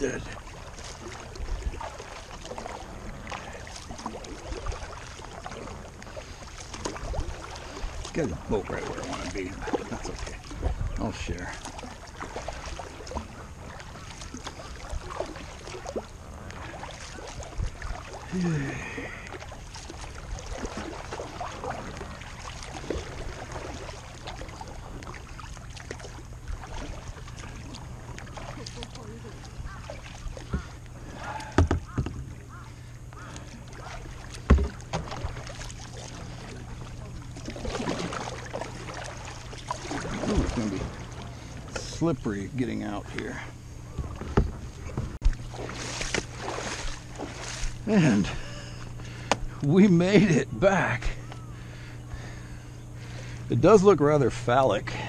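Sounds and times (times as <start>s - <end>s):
paddle splashing and dripping: 0.0s - 55.0s.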